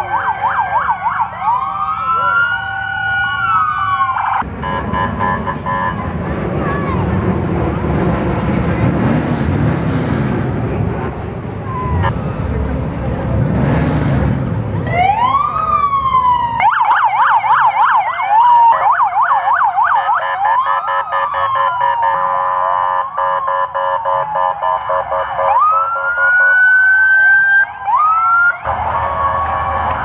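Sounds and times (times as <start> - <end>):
police sirens wailing and yelping: 0.0 - 7.6, 11.6 - 12.9, 14.7 - 30.0.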